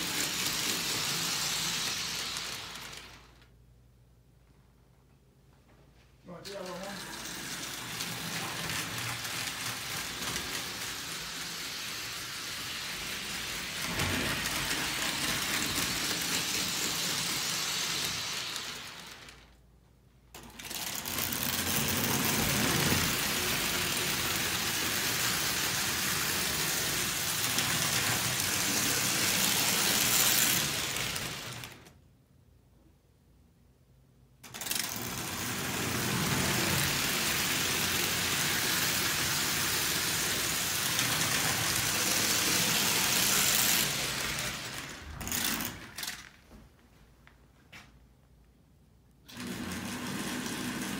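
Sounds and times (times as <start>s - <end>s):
toy train motors whirring: 0.0s - 3.5s, 6.4s - 19.6s, 20.3s - 32.0s, 34.4s - 46.4s, 49.3s - 50.9s.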